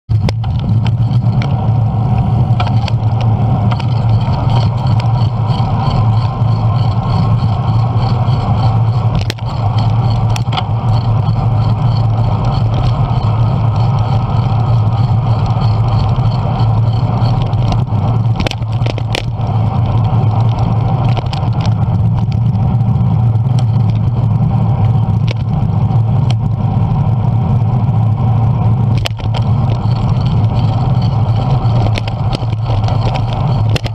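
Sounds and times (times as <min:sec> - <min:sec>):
bicycle road vibration: 0:00.0 - 0:33.9.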